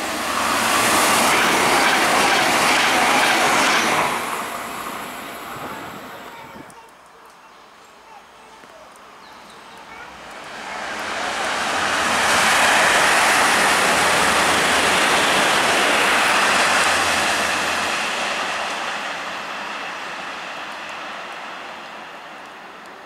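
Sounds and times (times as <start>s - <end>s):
high-speed train passing: 0.0s - 6.9s, 9.0s - 23.0s.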